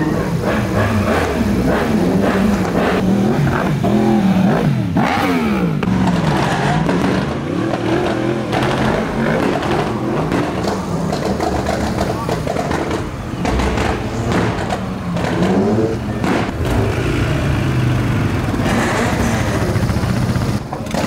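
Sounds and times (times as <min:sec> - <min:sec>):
vehicle engines revving: 0:00.0 - 0:21.0.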